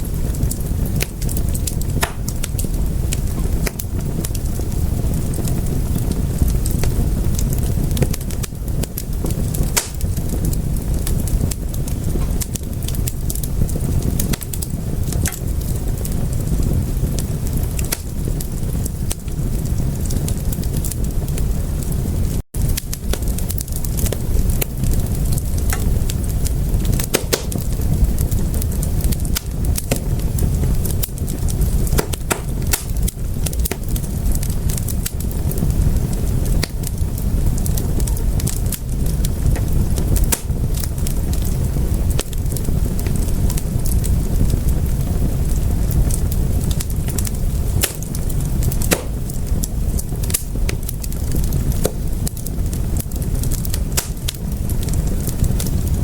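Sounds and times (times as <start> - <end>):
fire crackling: 0.0 - 56.0
low rumble of flames: 0.0 - 56.0.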